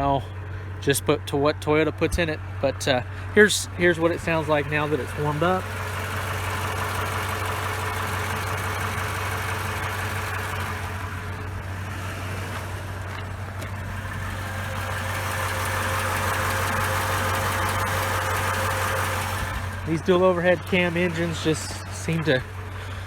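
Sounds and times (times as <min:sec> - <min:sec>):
engine idling with clatter: 0:00.0 - 0:23.0.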